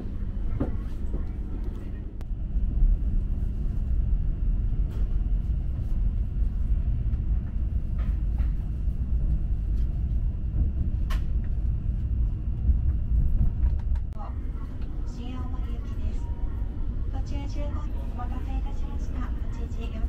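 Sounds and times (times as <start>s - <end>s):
train rumble from inside cabin: 0.0s - 20.0s.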